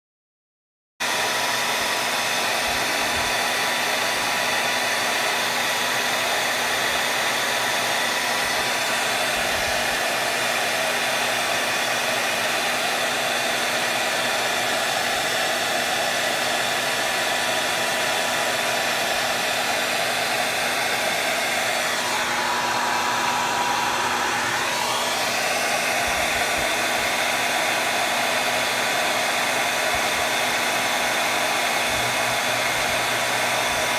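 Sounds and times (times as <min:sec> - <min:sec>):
hair dryer running: 0:01.0 - 0:33.9.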